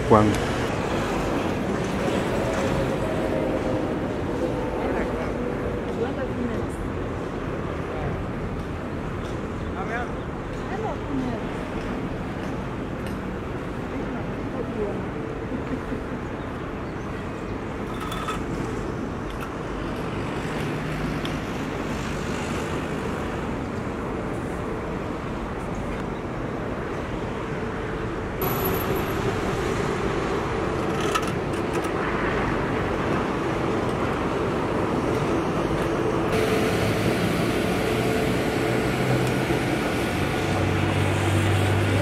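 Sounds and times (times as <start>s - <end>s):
road traffic: 0.0s - 42.0s
vehicle engines humming: 0.0s - 42.0s.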